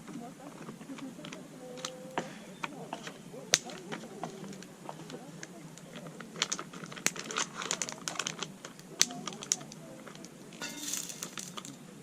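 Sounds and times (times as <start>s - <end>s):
wood campfire crackling: 0.0s - 12.0s.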